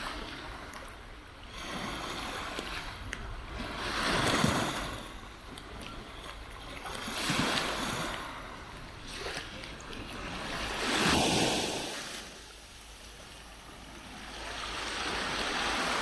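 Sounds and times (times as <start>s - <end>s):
waves washing on beach: 0.0s - 16.0s.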